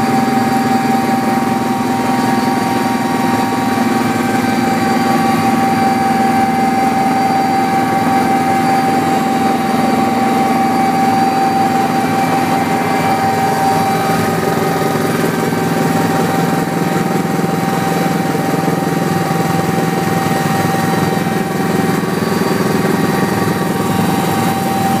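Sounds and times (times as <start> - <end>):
helicopter turbines and rotor drone: 0.0 - 25.0
high steady whine: 0.0 - 25.0.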